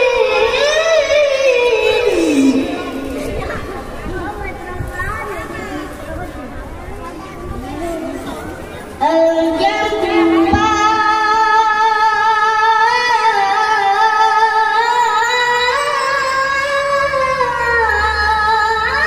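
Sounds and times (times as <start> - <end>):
boy reciting melodically: 0.0 - 19.0.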